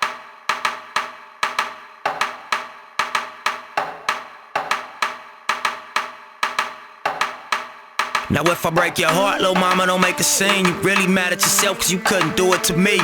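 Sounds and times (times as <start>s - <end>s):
hip-hop beat percussive hits: 0.0s - 13.0s.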